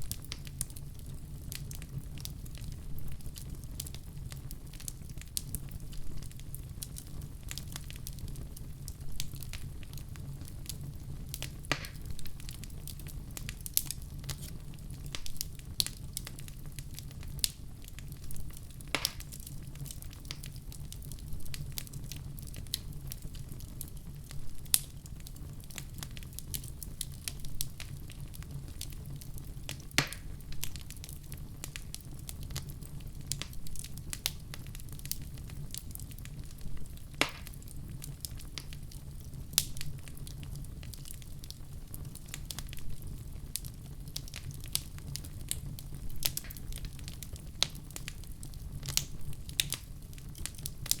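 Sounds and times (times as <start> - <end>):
wood fire crackling and popping: 0.0 - 51.0.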